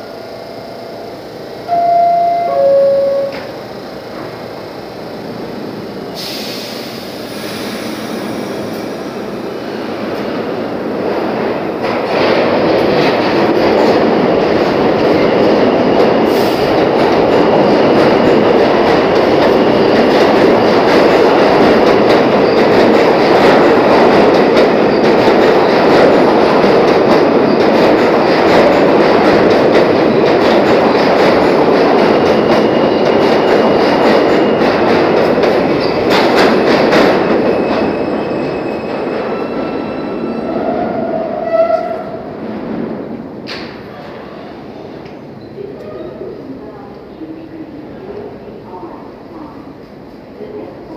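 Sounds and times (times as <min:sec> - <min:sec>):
subway train running: 0:00.0 - 0:50.9.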